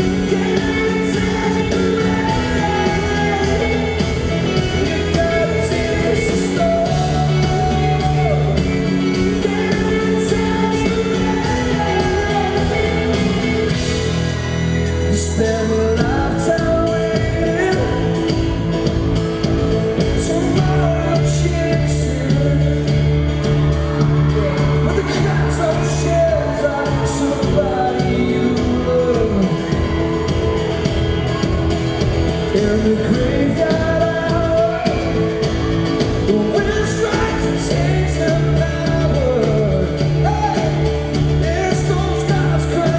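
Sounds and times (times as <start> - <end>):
live pop-rock band: 0.0 - 42.9
man singing: 0.0 - 42.9
strummed acoustic guitar: 0.0 - 42.9.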